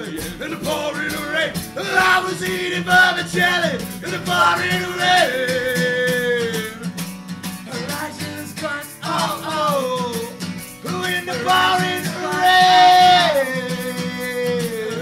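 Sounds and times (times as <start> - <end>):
wordless sliding vocal notes: 0.0 - 15.0.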